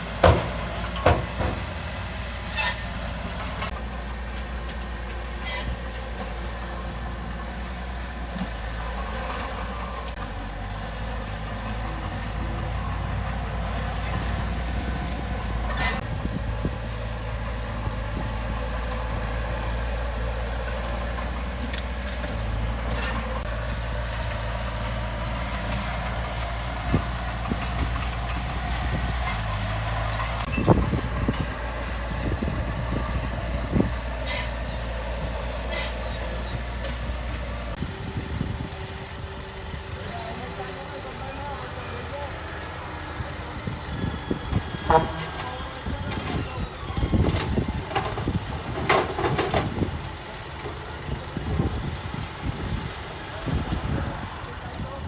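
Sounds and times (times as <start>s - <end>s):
heavy diesel machinery drone: 0.0s - 55.0s.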